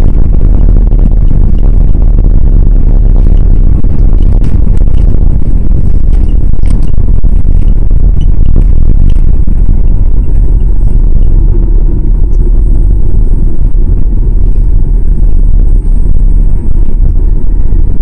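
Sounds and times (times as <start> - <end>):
aircraft cabin low rumble: 0.0 - 18.0.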